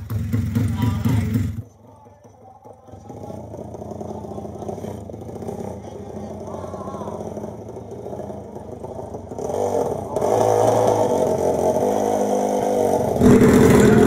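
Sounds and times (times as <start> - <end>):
motorcycle engine revving: 0.0 - 1.8, 2.6 - 14.0.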